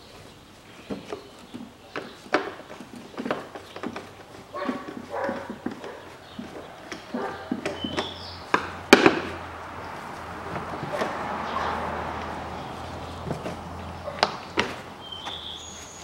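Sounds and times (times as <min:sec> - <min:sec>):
plastic rubbing and scraping: 0:00.7 - 0:16.0.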